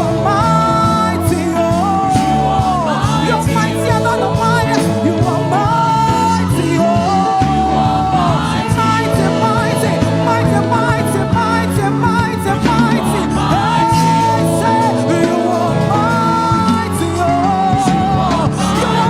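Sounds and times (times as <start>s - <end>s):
gospel band playing: 0.0s - 19.0s.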